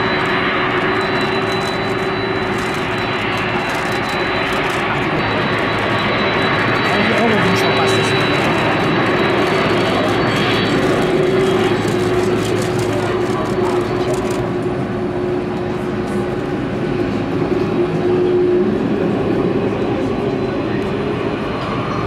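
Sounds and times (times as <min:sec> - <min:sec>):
faint high whine: 0:00.0 - 0:22.0
jet engines running: 0:00.0 - 0:22.0.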